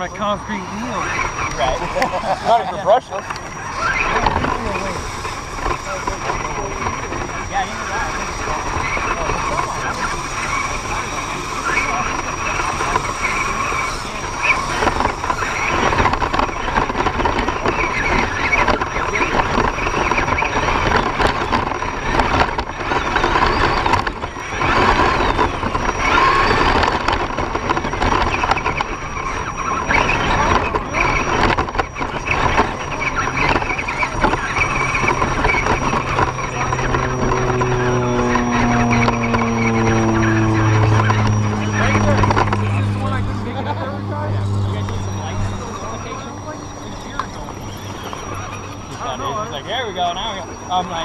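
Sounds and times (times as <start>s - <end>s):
electric motor whining: 0.0s - 51.0s.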